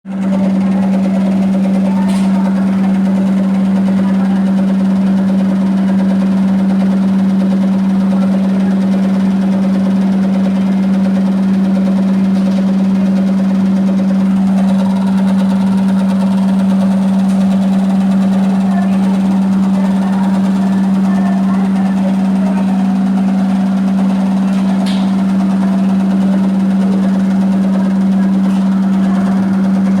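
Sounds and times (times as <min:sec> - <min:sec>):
washing machine spinning: 0:00.0 - 0:30.0.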